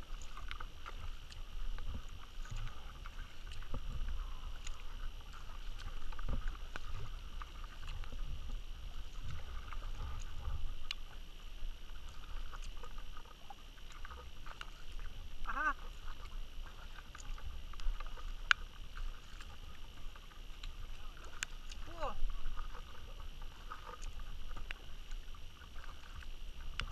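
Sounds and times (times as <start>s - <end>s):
paddle splashing in water: 0.0s - 26.9s.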